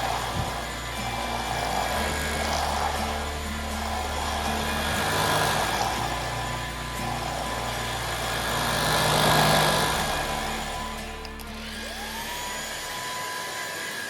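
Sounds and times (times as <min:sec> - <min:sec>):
background music with bass line: 0:00.0 - 0:12.8
stick vacuum running: 0:00.0 - 0:14.0.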